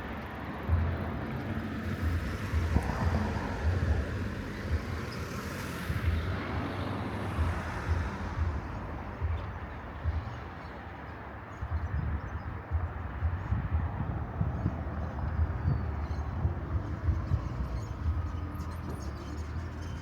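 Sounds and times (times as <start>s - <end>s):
low thumps and rumbles: 0.6s - 10.9s, 11.6s - 20.0s.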